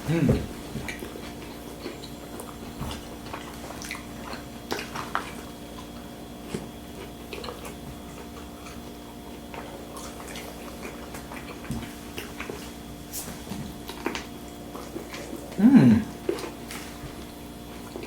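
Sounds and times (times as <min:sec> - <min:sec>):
faint steady hum: 0:00.0 - 0:18.0
people chewing food: 0:00.0 - 0:18.0.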